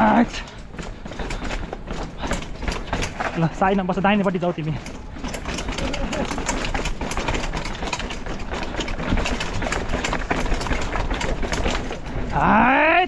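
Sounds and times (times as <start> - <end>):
bike chain and frame clatter: 0.0 - 13.0.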